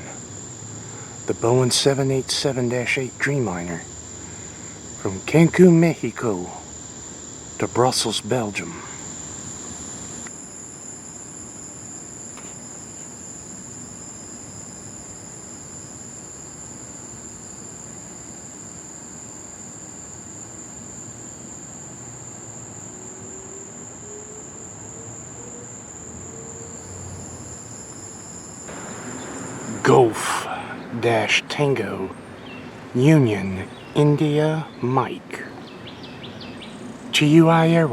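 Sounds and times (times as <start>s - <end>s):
crickets trilling: 0.0s - 37.9s
steady background hiss: 0.0s - 37.9s.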